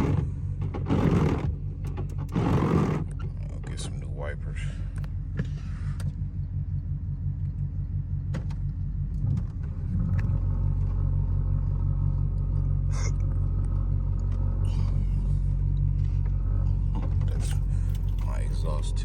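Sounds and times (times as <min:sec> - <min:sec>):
car exhaust droning: 0:00.0 - 0:19.0
exhaust tips vibrating: 0:00.0 - 0:19.0.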